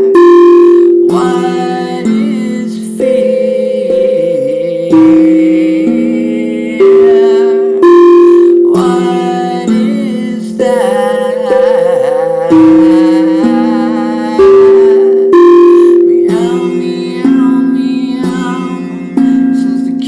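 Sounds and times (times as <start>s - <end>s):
steel tongue drum melody: 0.0s - 20.0s.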